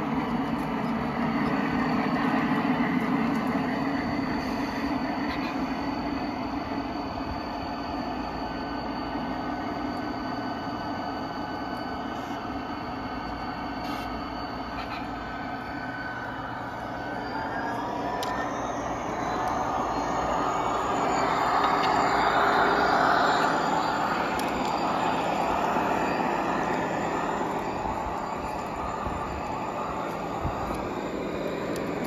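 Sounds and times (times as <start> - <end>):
model locomotive motor whine: 0.0 - 32.0
wheel and rail noise: 0.0 - 32.0.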